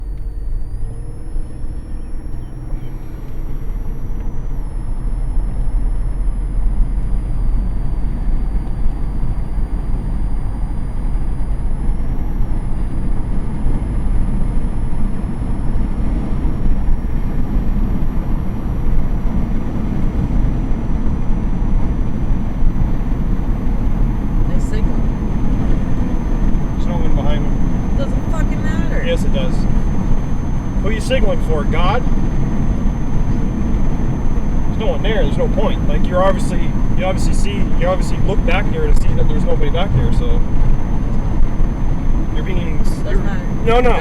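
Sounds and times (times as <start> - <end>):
road and engine noise in car: 0.0 - 44.0.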